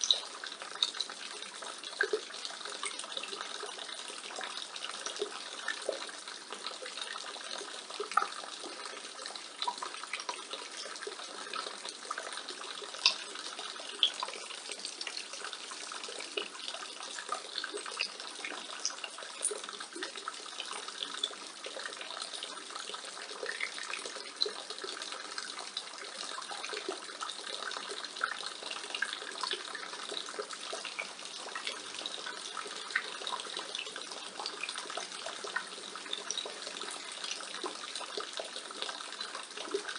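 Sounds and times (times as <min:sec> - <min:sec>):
water drips: 0:00.0 - 0:39.9
water pouring from gutter: 0:00.0 - 0:39.9.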